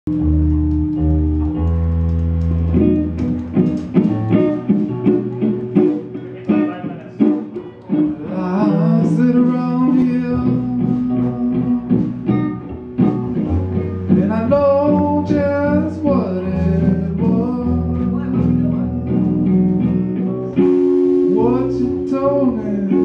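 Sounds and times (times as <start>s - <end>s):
electric guitar: 0.0s - 23.0s
blues-rock band playing: 0.1s - 23.0s.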